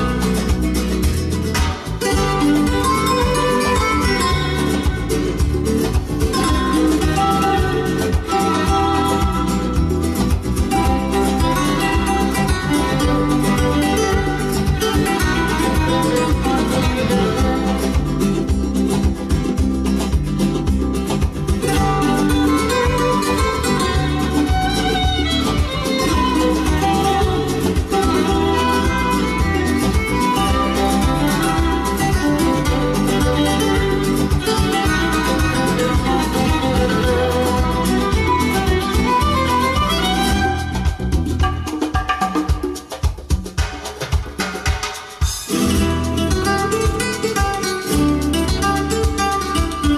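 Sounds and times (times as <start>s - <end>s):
guitar music with plucked notes: 0.0s - 43.4s, 45.3s - 49.9s.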